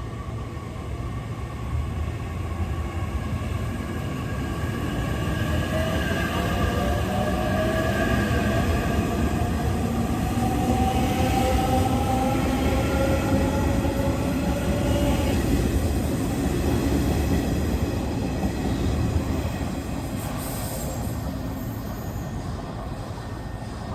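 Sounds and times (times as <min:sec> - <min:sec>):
train wheels on rails: 0:02.4 - 0:23.9.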